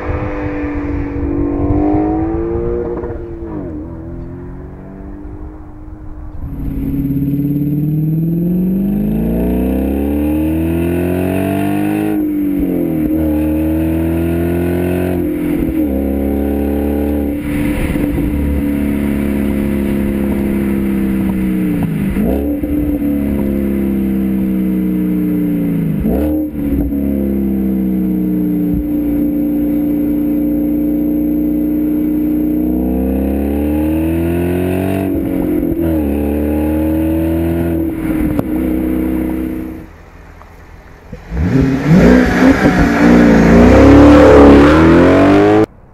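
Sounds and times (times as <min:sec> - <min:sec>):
car engine accelerating hard: 0:00.0 - 0:45.7.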